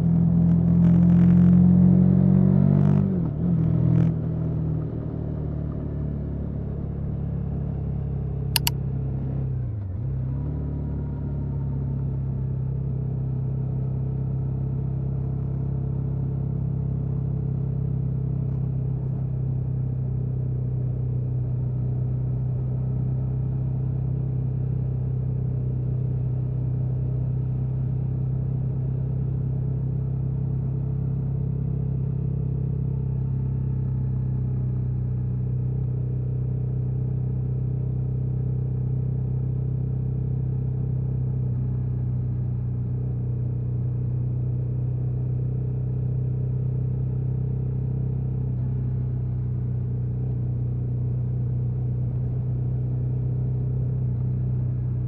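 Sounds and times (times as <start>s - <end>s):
motorcycle engine running steadily: 4.1s - 9.0s, 10.9s - 55.0s.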